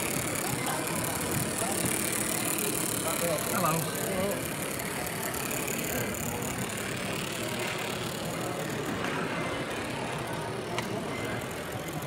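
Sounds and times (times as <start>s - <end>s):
hall background noise: 0.0s - 12.0s
model steam locomotive running: 0.0s - 12.0s.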